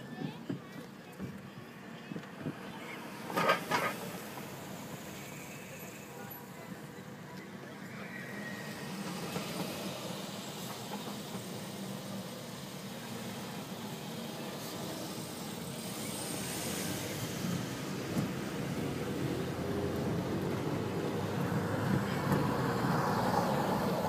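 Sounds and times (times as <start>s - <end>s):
surrounding traffic: 0.0s - 24.0s
car engine and road noise: 0.2s - 24.0s.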